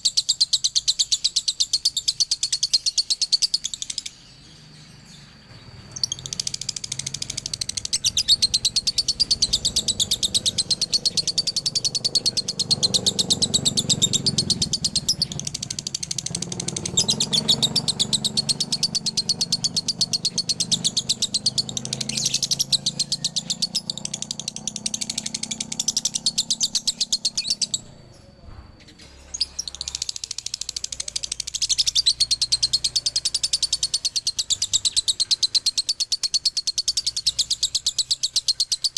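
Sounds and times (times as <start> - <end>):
lovebird chattering trill: 0.0 - 38.9.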